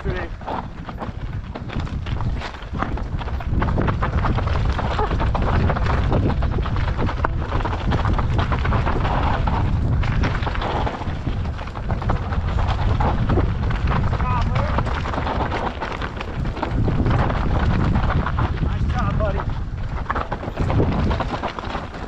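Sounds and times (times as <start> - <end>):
bike knocks and rattles: 0.0 - 22.0
wind and tyre rumble: 0.0 - 22.0.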